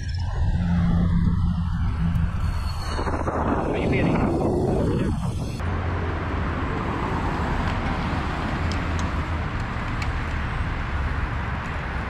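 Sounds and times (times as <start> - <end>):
road and wind rumble: 0.0 - 12.0.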